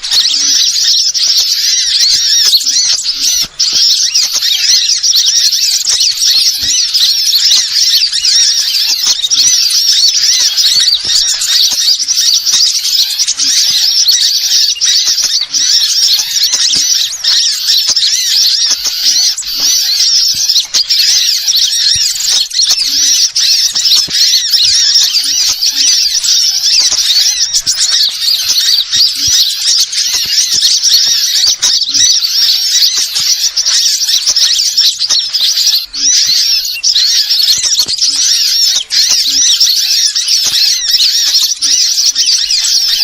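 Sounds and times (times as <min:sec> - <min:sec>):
small birds chirping and twittering: 0:00.0 - 0:43.0.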